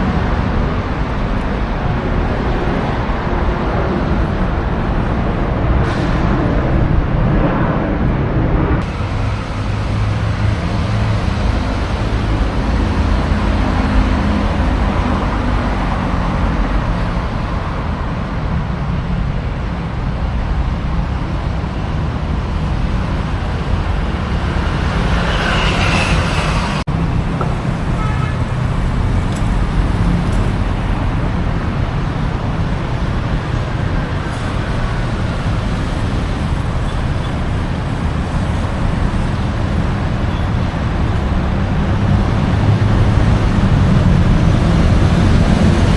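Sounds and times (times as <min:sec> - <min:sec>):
street traffic rumble: 0:00.0 - 0:45.9.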